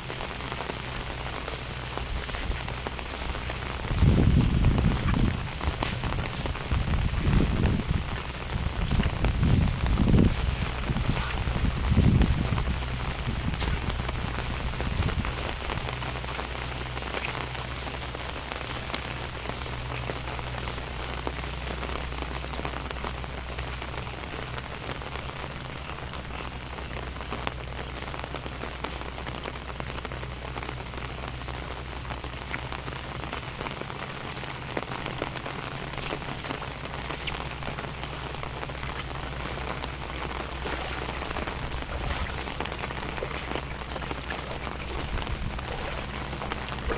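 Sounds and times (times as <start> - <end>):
low hum: 0.0 - 46.9
rain pattering: 0.0 - 46.9.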